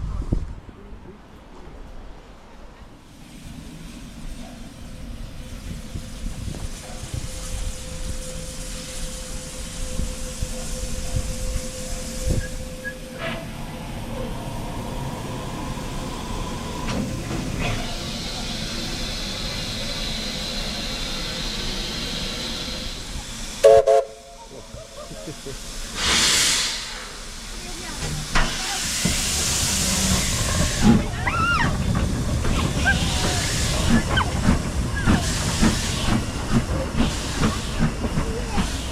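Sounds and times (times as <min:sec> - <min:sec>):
steam train rumbling: 0:00.0 - 0:38.9.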